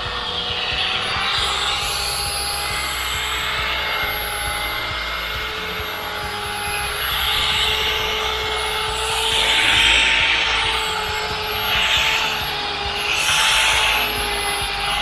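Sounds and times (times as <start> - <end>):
rotary buffer motor whine: 0.0 - 15.0.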